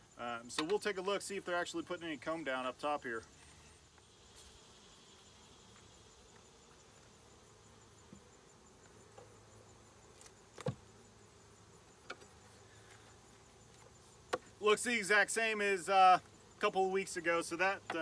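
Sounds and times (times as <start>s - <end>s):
bees buzzing: 1.5s - 18.0s.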